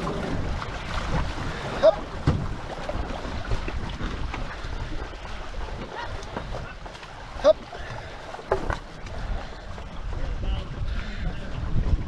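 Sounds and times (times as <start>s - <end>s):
paddle strokes: 0.0s - 12.0s
water washing along hull: 0.0s - 12.0s
wind on microphone: 0.0s - 12.0s.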